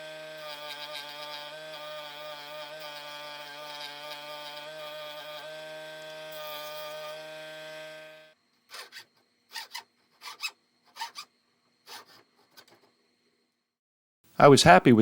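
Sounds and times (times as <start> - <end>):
hand file scraping wood: 0.0 - 11.3, 11.9 - 13.0.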